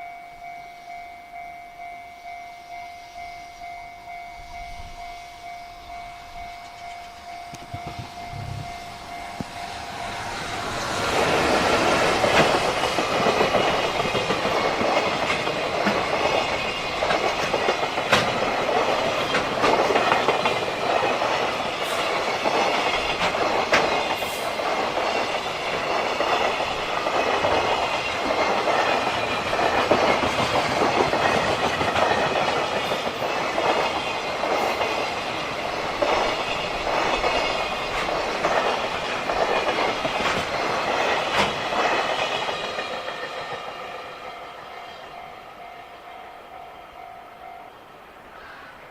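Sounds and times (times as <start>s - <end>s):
train wheels clickety-clack: 6.4s - 45.6s.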